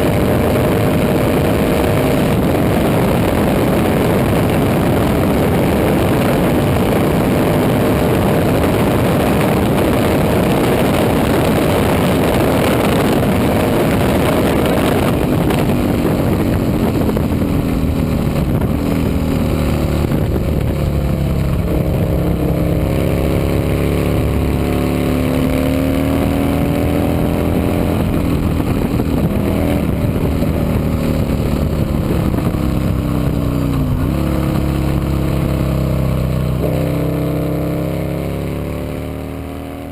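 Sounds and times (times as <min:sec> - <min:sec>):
racing motorcycle engines revving: 0:00.0 - 0:39.9.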